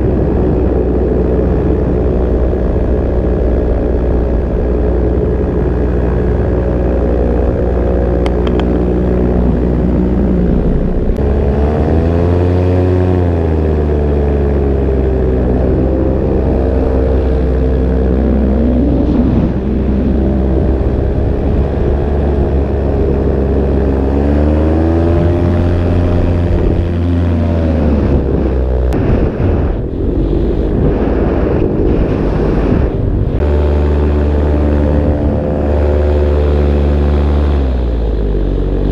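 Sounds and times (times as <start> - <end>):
wind rushing past: 0.0 - 13.2, 14.4 - 36.4
paramotor engine and propeller: 0.0 - 38.9.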